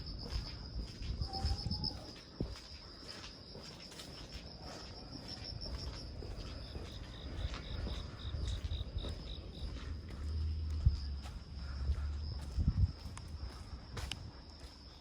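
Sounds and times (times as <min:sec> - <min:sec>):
cricket chirping in pulses: 0:00.0 - 0:15.0
crickets trilling: 0:00.0 - 0:15.0.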